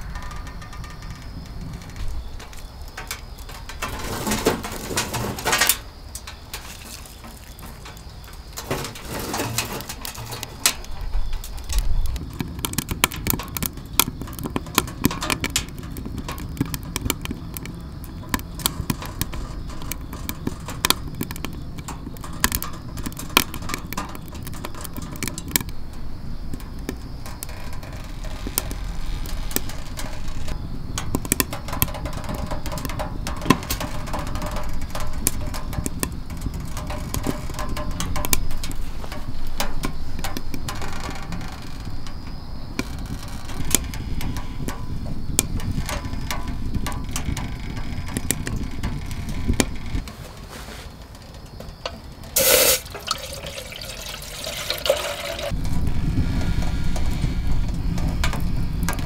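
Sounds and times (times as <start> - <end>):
firewood knocking against metal: 0.0 - 50.2
wood fire crackling in stove: 0.0 - 59.0.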